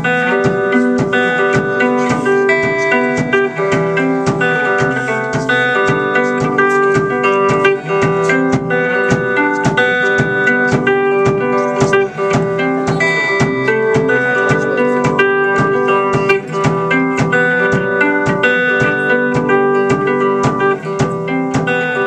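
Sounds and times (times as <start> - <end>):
keyboard: 0.0 - 22.0
steady drum beat: 0.0 - 22.0
strummed electric guitar: 0.0 - 22.0.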